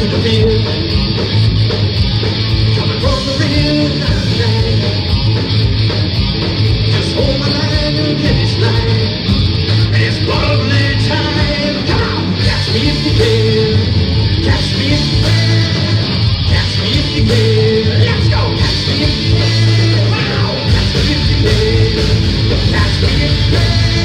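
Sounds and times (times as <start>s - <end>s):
lead singer: 0.0s - 1.2s, 2.2s - 5.6s, 6.8s - 24.0s
bass guitar: 0.0s - 24.0s
drums: 0.0s - 24.0s
electric guitar: 0.0s - 24.0s.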